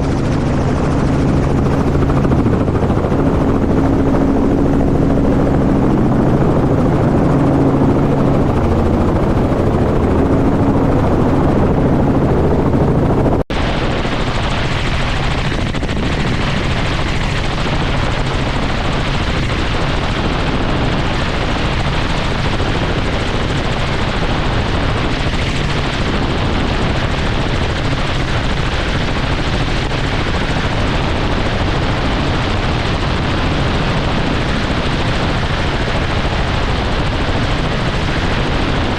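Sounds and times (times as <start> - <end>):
helicopter rotor and engine hum: 0.0 - 38.9.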